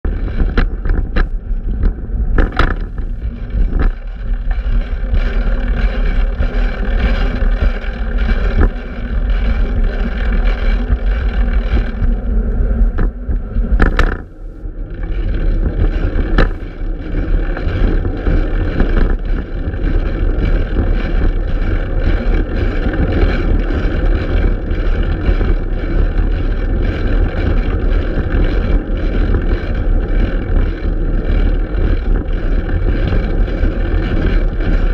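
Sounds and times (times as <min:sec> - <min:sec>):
wind and road noise: 0:00.0 - 0:34.9.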